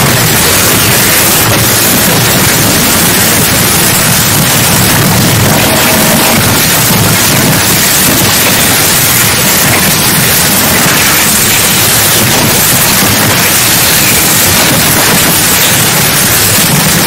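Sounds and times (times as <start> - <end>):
white-noise static hiss: 0.0 - 17.0.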